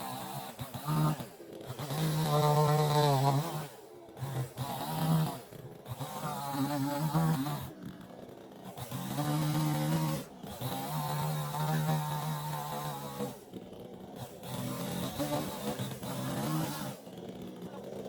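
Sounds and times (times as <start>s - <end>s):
chainsaw running at high revs: 0.0s - 18.0s.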